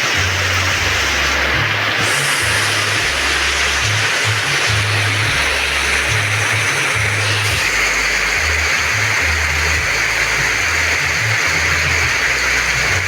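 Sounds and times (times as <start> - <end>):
heavy rain falling: 0.0 - 13.0
low bass line music: 0.0 - 13.0.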